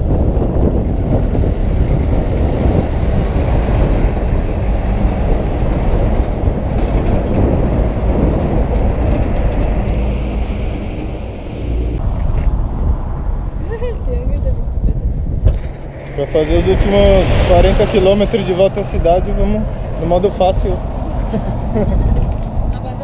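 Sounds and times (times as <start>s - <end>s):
truck passing with rumble: 0.0s - 23.0s
wind rushing over camera: 0.0s - 23.0s.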